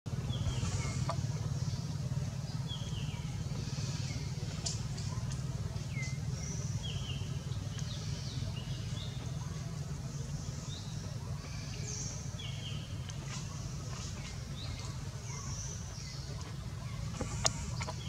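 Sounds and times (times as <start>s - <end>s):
birds chirping: 0.1s - 18.0s
low outdoor rumble: 0.1s - 18.0s.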